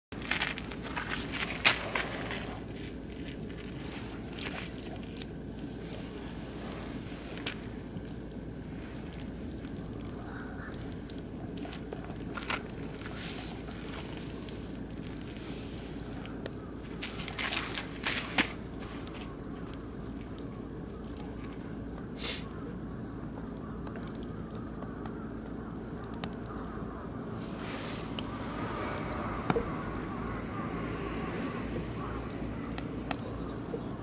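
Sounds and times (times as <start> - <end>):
wood fire crackling and popping: 0.1 - 34.0.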